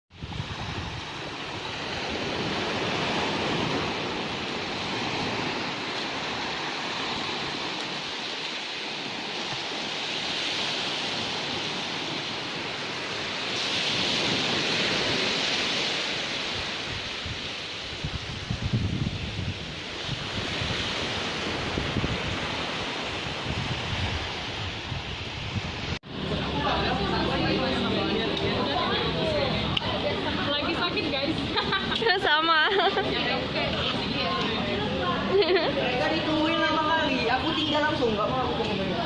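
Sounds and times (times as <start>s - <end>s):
waves rushing: 0.1s - 39.0s
wind: 0.1s - 39.0s.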